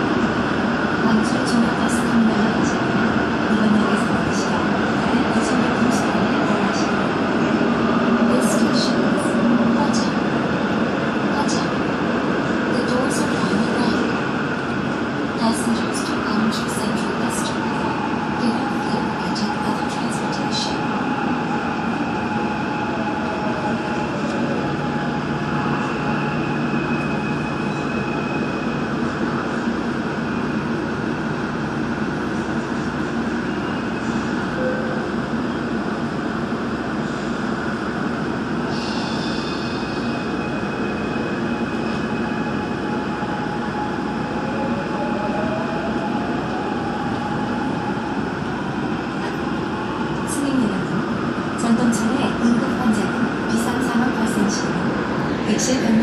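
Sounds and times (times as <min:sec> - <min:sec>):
steady train hum: 0:00.0 - 0:56.0.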